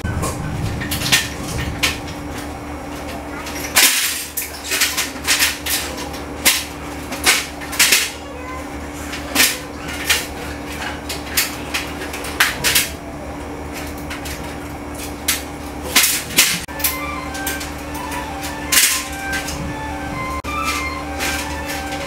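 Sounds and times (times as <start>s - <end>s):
clatter of parts being handled: 0.2s - 8.2s, 9.0s - 13.0s, 13.7s - 19.6s, 20.4s - 22.0s.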